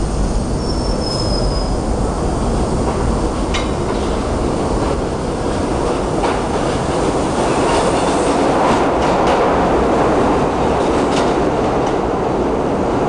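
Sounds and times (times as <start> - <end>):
subway train passing: 0.0 - 13.0.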